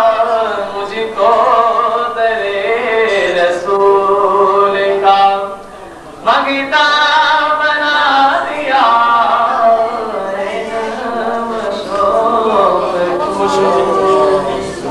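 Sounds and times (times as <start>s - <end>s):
man singing unaccompanied: 0.0s - 14.9s.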